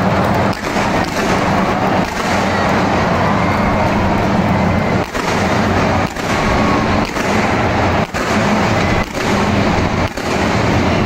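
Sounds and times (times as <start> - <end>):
fireworks roaring and crackling: 0.0 - 11.0.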